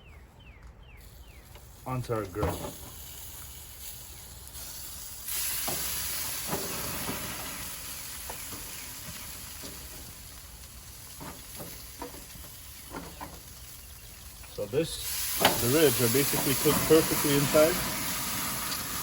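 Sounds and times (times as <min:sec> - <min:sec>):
meat sizzling on a grill: 0:01.7 - 0:19.0.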